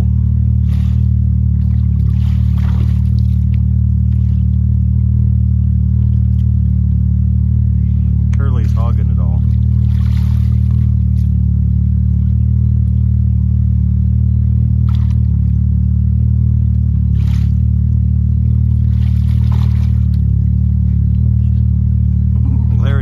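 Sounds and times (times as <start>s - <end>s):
engine droning steadily: 0.0s - 23.0s.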